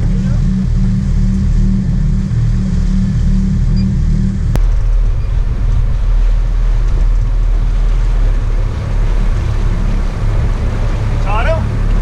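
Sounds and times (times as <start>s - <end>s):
boat engines rumbling: 0.0s - 12.0s
water wash: 0.0s - 12.0s
wind: 0.0s - 12.0s.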